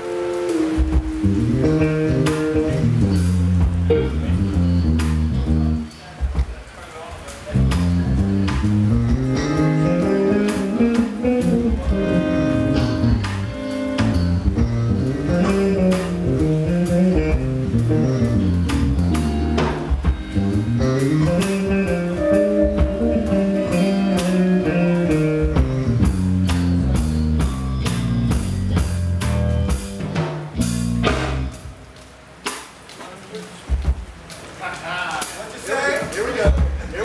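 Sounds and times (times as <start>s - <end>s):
electric guitar: 0.0s - 6.4s, 7.5s - 32.1s
drum kit: 0.0s - 37.0s.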